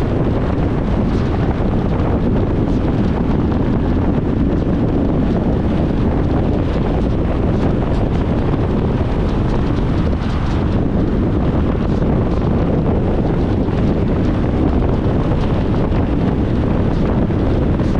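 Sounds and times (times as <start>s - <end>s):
engine drone: 0.0s - 17.9s
road and tyre noise: 0.0s - 17.9s.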